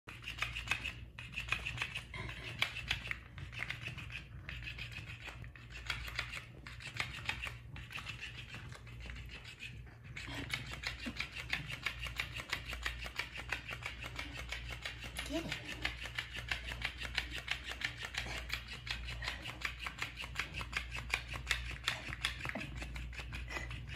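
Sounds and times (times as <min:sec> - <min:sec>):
toy slapping on wooden floor: 0:00.1 - 0:23.9.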